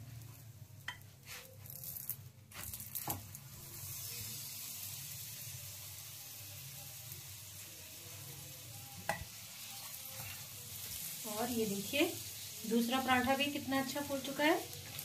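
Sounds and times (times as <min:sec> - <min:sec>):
oil sizzling on hot pan: 0:00.0 - 0:15.0.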